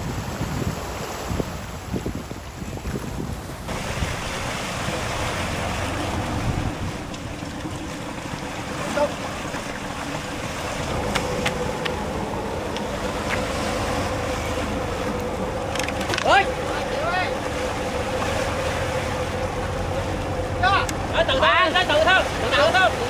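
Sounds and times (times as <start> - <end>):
sea waves: 0.0 - 23.0
wind buffeting microphone: 0.0 - 23.0.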